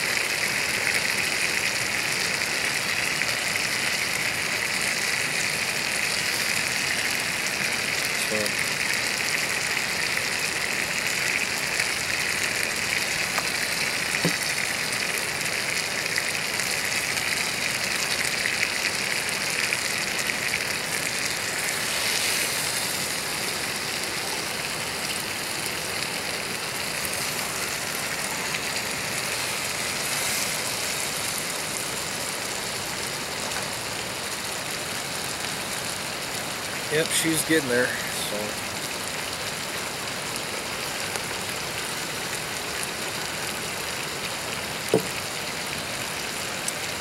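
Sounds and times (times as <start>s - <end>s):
meat and onions sizzling: 0.0s - 47.0s.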